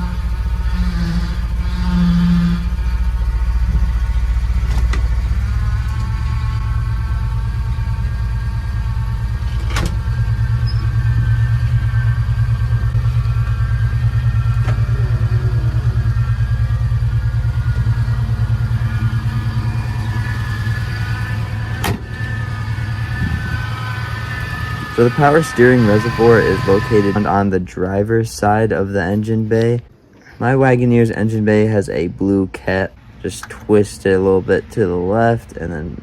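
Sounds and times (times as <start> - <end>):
engine running: 0.0 - 36.0
power steering pump whine: 0.0 - 36.0.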